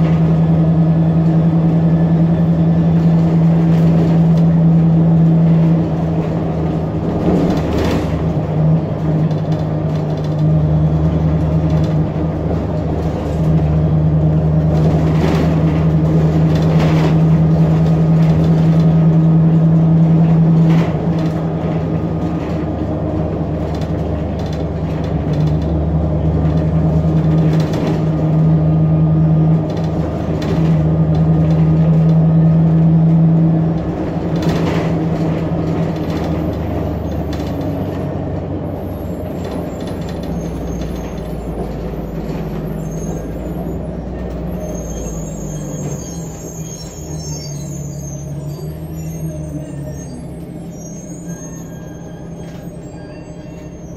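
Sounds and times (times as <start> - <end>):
bus engine droning: 0.0 - 53.9.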